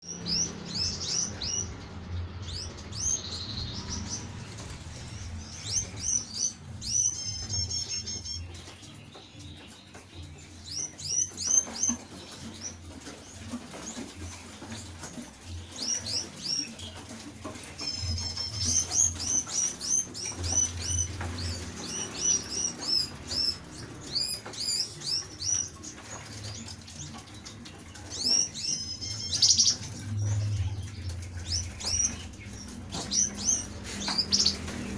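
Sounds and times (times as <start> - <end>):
caged songbirds chirping: 0.0 - 34.9.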